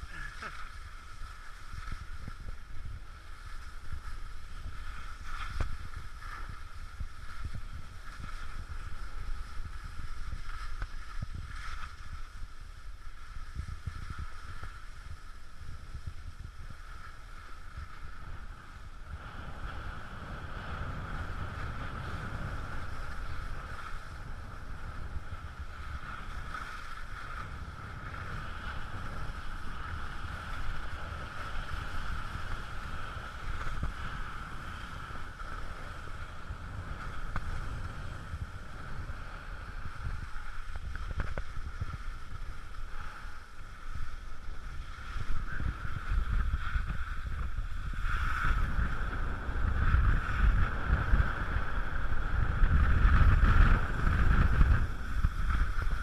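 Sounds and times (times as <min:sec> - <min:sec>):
skis sliding on snow: 0:00.0 - 0:56.0
wind on microphone: 0:00.0 - 0:56.0.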